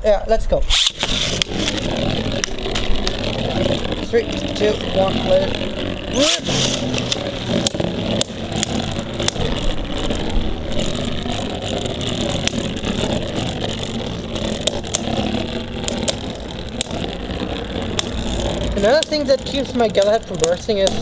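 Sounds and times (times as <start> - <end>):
spinning tops whirring and grinding: 0.6 - 21.0.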